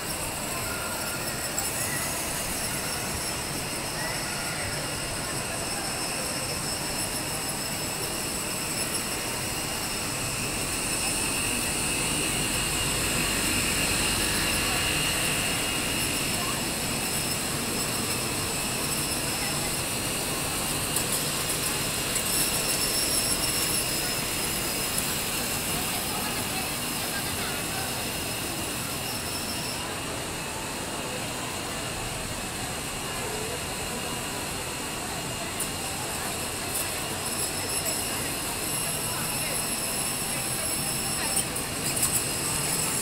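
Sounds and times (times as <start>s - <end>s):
constant hum: 0.0s - 43.0s.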